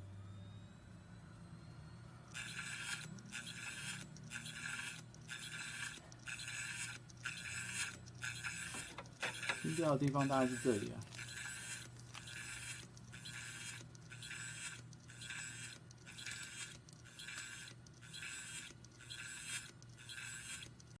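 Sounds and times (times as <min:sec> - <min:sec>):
hard drive rhythmic scraping: 0:02.2 - 0:21.0.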